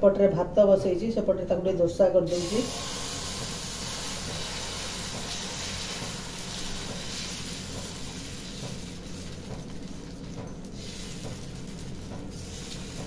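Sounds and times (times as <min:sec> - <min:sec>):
batter sizzling on hot pan: 0:02.3 - 0:13.0.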